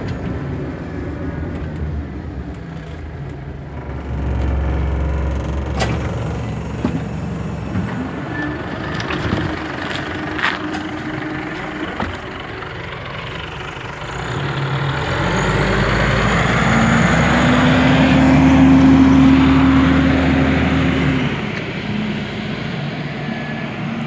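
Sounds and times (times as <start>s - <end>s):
bus diesel engine accelerating: 0.0s - 24.0s.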